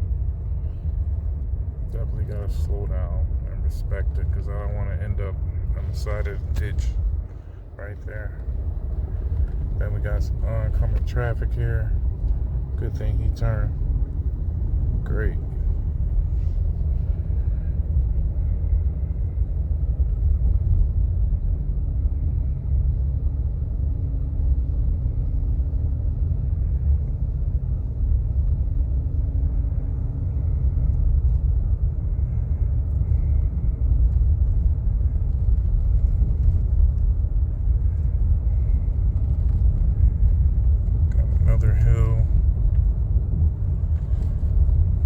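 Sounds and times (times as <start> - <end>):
car driving on snowy road: 0.0 - 45.0
faint hum: 0.0 - 45.0.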